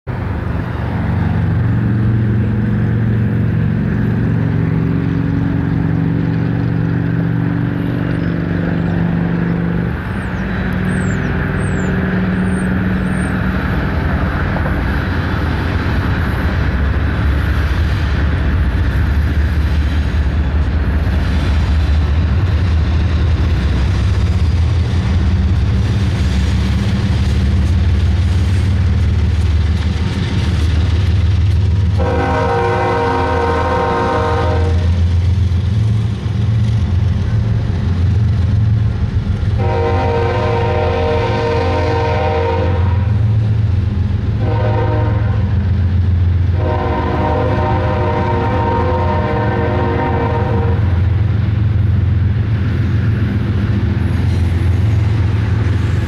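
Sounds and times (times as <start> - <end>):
low train rumble: 0.0 - 56.0
locomotive engines droning: 0.1 - 56.0.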